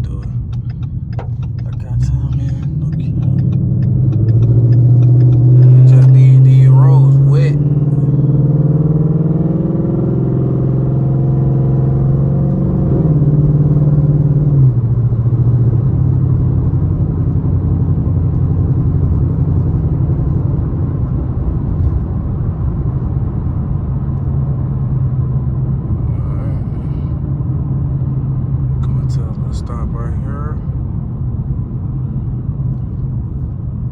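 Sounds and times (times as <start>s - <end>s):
car engine while driving: 0.0s - 33.9s
road noise: 0.0s - 33.9s.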